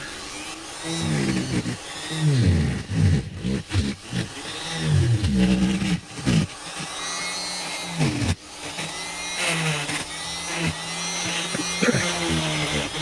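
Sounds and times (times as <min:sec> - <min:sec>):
electric grinder carving wood: 0:00.0 - 0:13.0.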